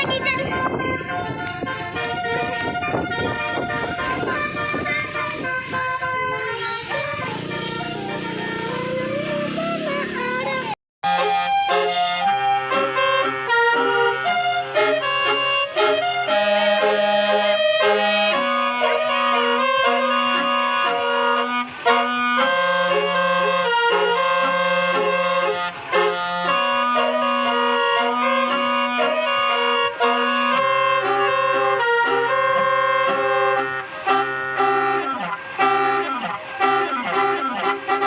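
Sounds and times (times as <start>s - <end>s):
held low bass notes: 0.0s - 38.0s
reedy clarinet-like melody: 0.0s - 38.0s.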